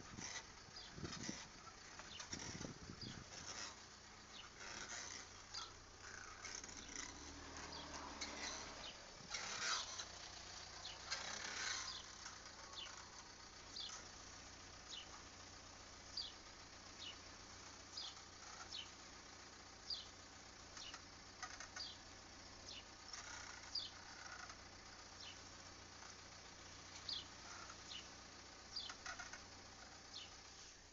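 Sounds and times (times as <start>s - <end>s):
car squeaking: 0.0s - 30.9s.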